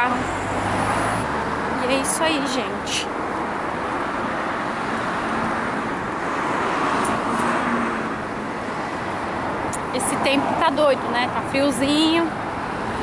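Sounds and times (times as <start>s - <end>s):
cars passing on street: 0.0s - 13.0s.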